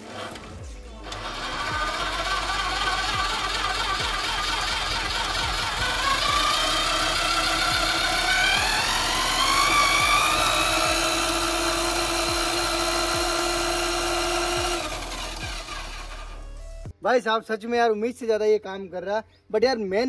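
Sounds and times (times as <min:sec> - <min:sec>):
electric drill motor whining: 0:00.0 - 0:16.9.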